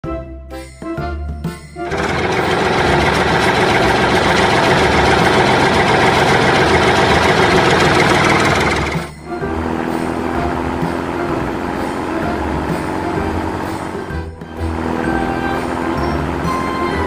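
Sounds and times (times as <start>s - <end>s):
cartoon loader engine: 1.8s - 17.0s
different vehicle engine: 1.8s - 17.0s.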